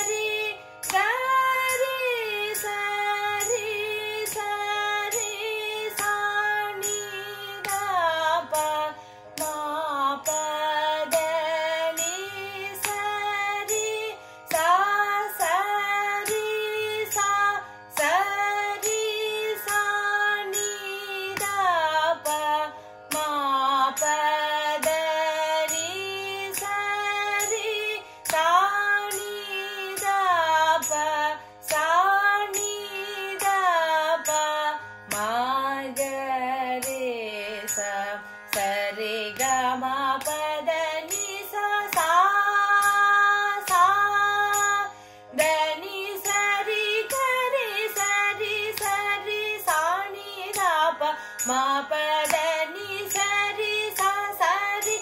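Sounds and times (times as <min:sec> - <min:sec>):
woman singing: 0:00.0 - 0:55.0.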